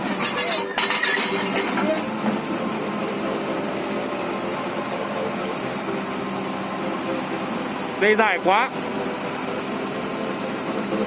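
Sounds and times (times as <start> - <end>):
machine engine humming: 1.8 - 11.0.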